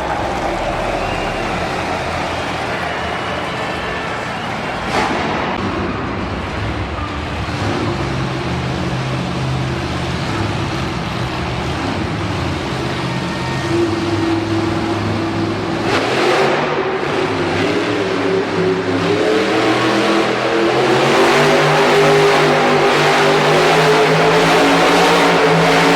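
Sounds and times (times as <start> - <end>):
monster truck engine revving: 0.0 - 25.9.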